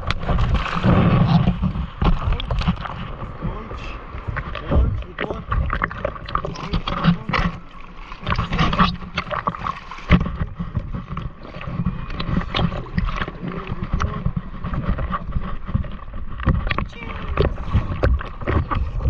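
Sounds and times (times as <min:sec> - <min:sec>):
water splashing against surfboard: 0:00.0 - 0:19.0
wind rumble on microphone: 0:00.0 - 0:19.0.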